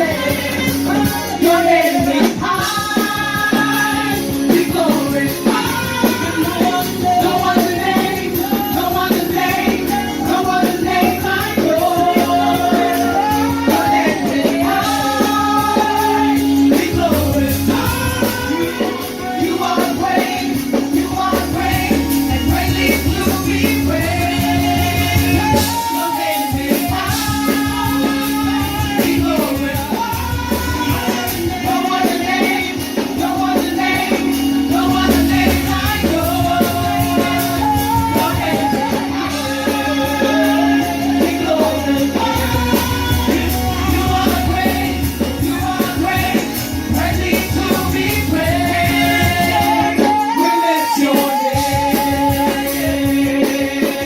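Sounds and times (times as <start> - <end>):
worship band playing: 0.0 - 54.0.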